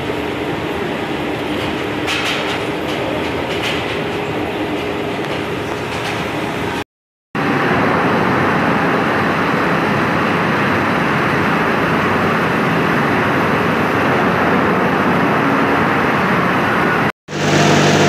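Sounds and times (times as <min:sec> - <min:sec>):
production line machinery: 0:00.0 - 0:15.6, 0:16.9 - 0:18.0.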